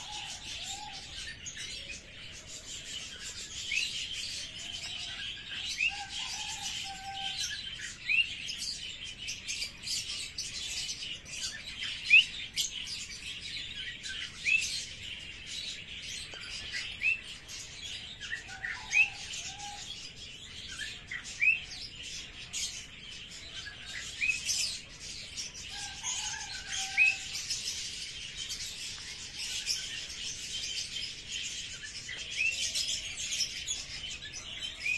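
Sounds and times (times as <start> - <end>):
birds chirping: 0.0 - 34.9
high bird chorus: 0.0 - 34.9.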